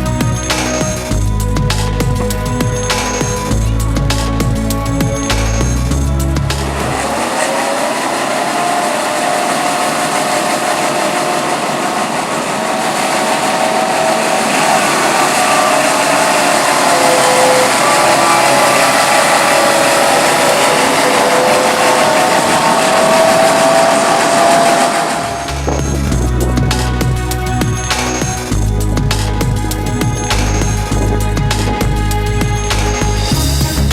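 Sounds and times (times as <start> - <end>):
tram snow sweeper whirring: 0.0 - 33.9.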